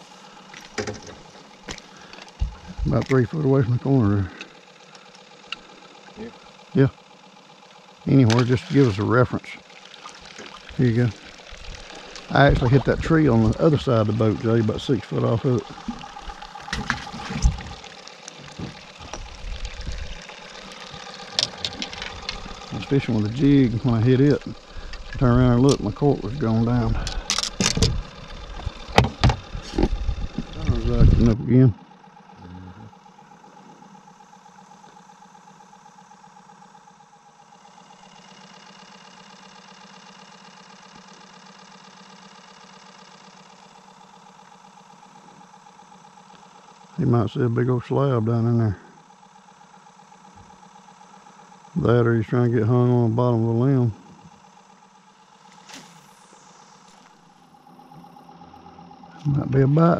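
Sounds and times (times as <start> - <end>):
faint pump hum: 0.0 - 59.9.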